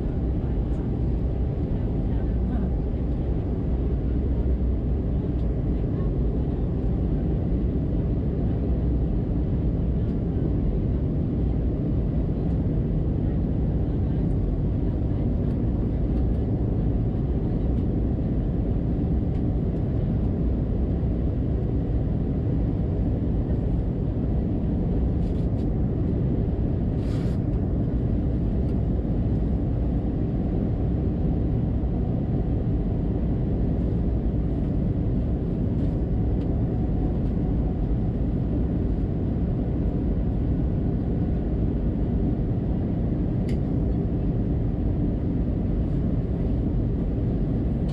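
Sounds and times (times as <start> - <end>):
jet cabin engine rumble: 0.0 - 47.9.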